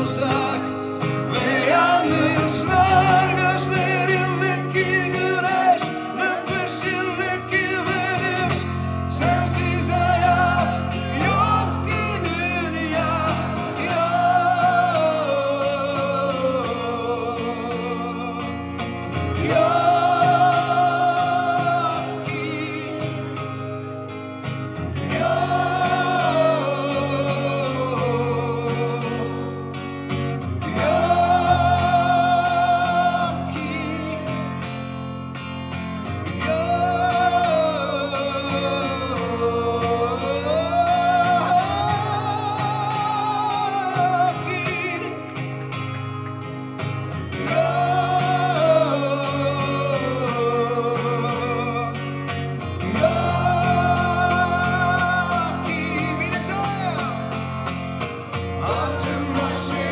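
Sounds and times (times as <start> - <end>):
man singing: 0.0 - 24.0, 25.0 - 34.8, 36.2 - 45.7, 47.3 - 57.7, 58.3 - 59.9
acoustic guitar chords: 0.0 - 59.9.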